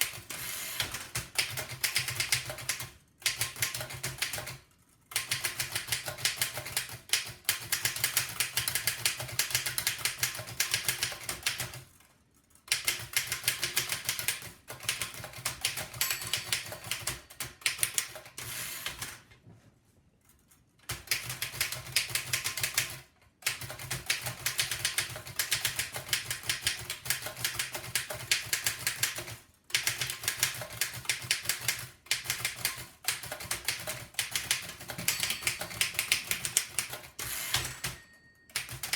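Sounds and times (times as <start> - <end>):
typewriter keystroke clacks: 0.0 - 11.9, 12.6 - 18.3, 20.8 - 38.9.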